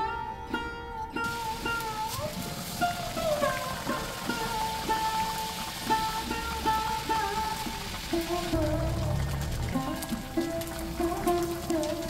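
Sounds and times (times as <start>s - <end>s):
plucked string instrumental music: 0.0s - 12.0s.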